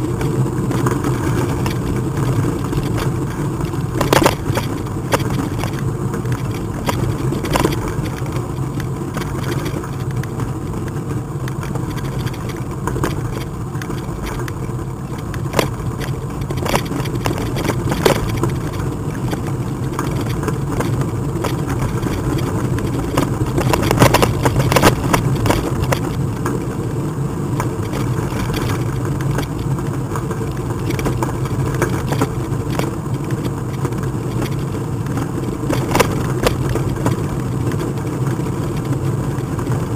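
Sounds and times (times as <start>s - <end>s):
bike rattles and knocks: 0.0s - 39.9s
bike rolling on paved path: 0.0s - 39.9s.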